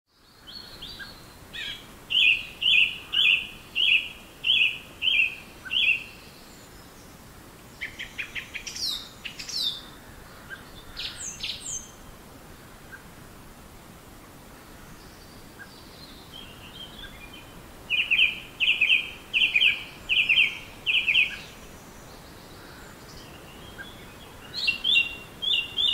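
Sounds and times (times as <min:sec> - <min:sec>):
songbird singing: 0:00.1 - 0:13.2, 0:14.1 - 0:25.9
faint background noise: 0:00.1 - 0:25.9.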